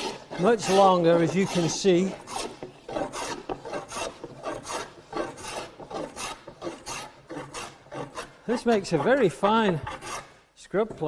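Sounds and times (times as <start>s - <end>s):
plane rasping across wood: 0.0s - 11.0s.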